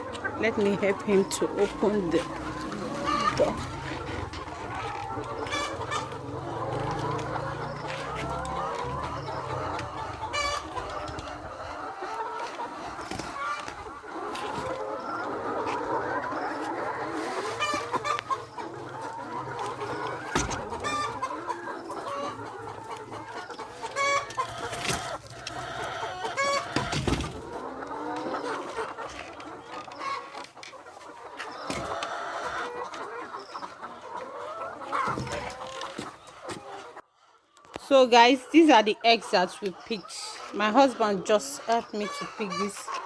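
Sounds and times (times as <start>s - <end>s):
hens clucking: 0.0s - 43.0s.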